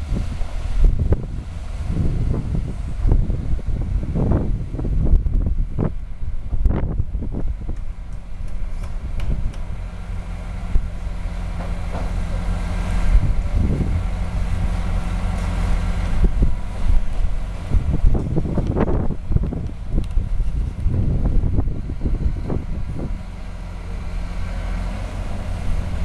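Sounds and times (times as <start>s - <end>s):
diesel engine running: 0.0s - 26.0s
wind rumbling on microphone: 0.0s - 26.0s.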